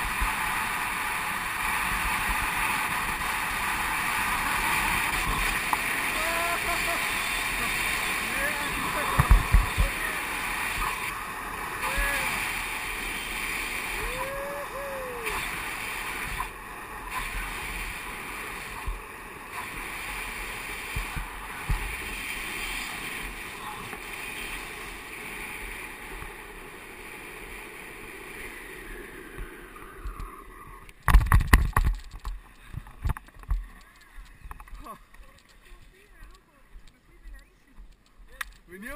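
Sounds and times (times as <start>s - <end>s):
wind rushing over microphone: 0.0s - 34.8s
longboard wheels rolling on asphalt: 0.0s - 38.9s.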